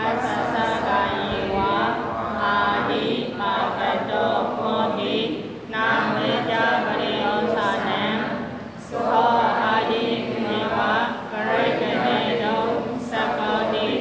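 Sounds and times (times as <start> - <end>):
person chanting: 0.0 - 14.0.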